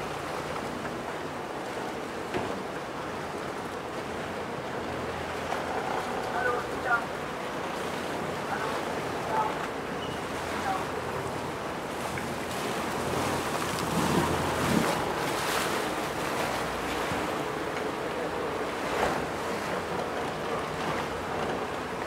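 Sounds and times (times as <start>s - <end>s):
boat engine humming: 0.0s - 22.0s
water sloshing against boat hull: 0.0s - 22.0s
water splashes: 0.0s - 22.0s.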